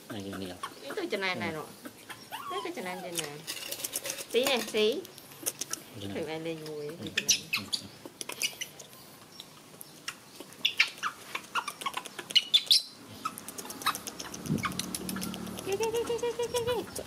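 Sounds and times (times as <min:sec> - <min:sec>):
baby monkeys squeaking: 0:00.2 - 0:09.0, 0:10.0 - 0:17.0.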